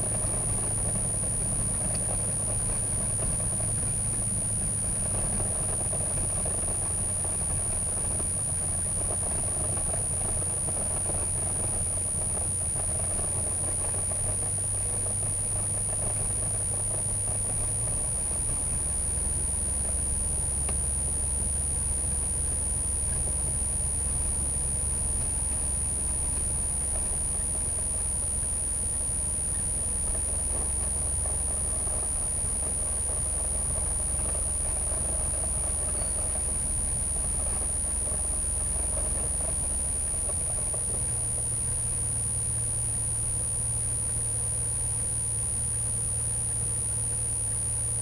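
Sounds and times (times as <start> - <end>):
aircraft engine running at low power: 0.0 - 48.0.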